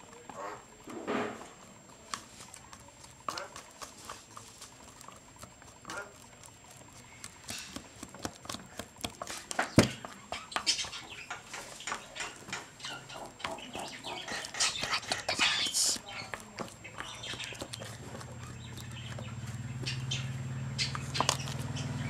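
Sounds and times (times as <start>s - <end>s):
stick stirring slime squelching: 1.5s - 21.8s.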